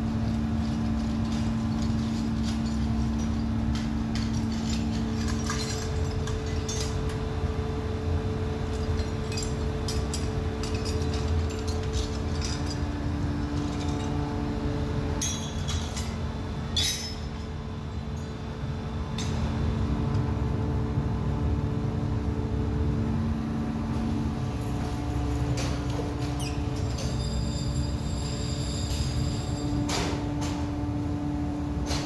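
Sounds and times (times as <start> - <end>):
workshop machinery hum: 0.0 - 32.0.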